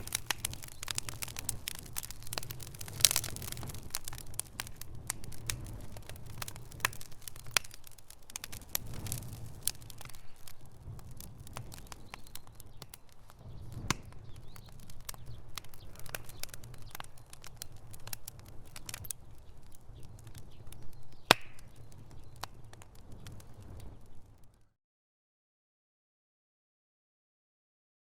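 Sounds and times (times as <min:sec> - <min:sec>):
loud pop from fire: 0:00.0 - 0:19.2, 0:20.1 - 0:24.1
low rumble of flame: 0:00.0 - 0:24.7
wood fire crackling: 0:00.0 - 0:24.7.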